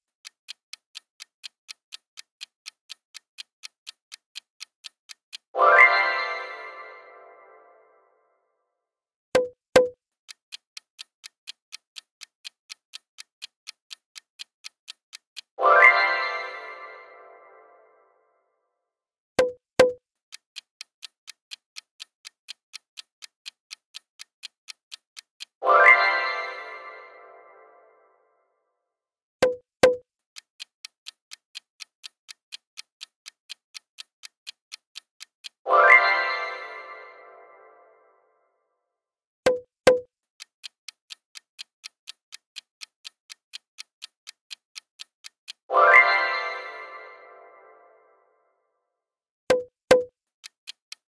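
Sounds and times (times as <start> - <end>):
clock-like timer ticks: 0.0 - 8.0, 9.3 - 18.1, 19.4 - 28.0, 29.4 - 38.1, 39.4 - 48.3, 49.5 - 51.0.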